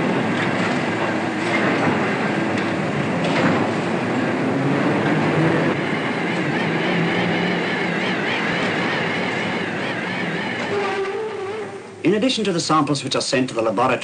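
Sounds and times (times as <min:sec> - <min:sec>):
steelworks mechanical noise: 0:00.0 - 0:12.9.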